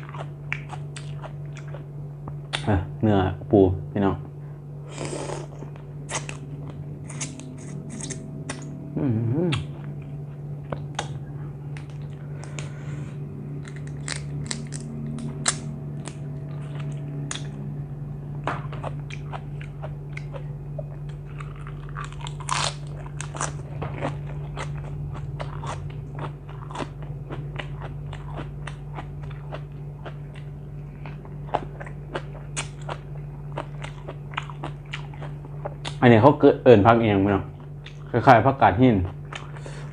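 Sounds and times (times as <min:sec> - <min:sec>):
person crunching and chewing food: 0:00.0 - 0:02.7, 0:04.9 - 0:17.6, 0:18.5 - 0:36.0, 0:39.0 - 0:39.9
steady low hum: 0:00.0 - 0:39.9.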